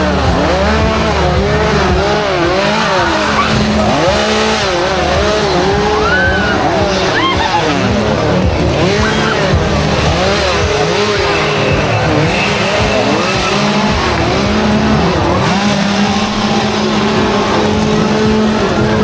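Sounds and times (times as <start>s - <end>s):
engines revving: 0.0s - 19.0s.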